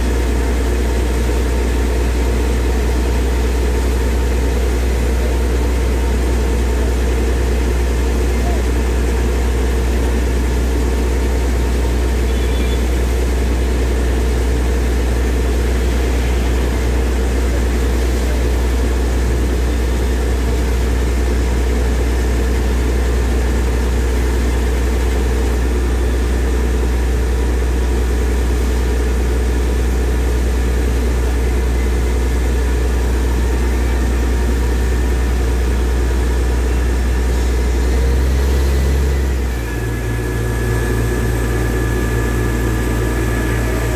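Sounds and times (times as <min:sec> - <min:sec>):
drilling rig mechanical noise: 0:00.0 - 0:43.9
tractor engine hum: 0:00.0 - 0:43.9.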